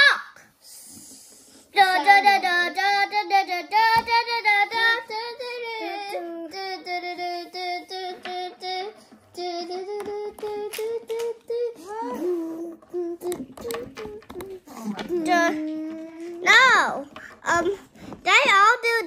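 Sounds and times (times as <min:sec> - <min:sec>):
child making sing-song sounds: 0:01.6 - 0:19.0.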